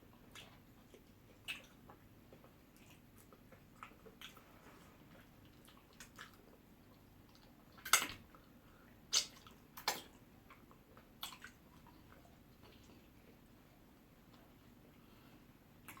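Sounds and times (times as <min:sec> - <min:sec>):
wet eating smacks and squelches: 0:00.1 - 0:15.0, 0:15.8 - 0:16.0.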